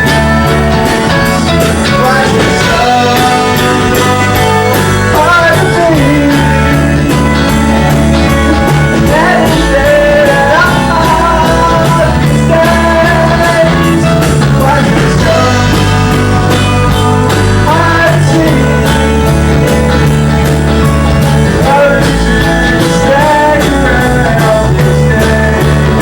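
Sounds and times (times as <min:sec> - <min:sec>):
bass guitar: 0:00.0 - 0:26.0
electric guitar: 0:00.0 - 0:26.0
person singing: 0:00.0 - 0:26.0
steady drumbeat: 0:00.0 - 0:26.0.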